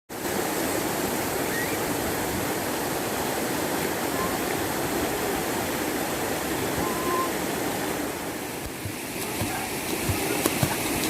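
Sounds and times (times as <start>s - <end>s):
river water rushing: 0.1s - 11.0s.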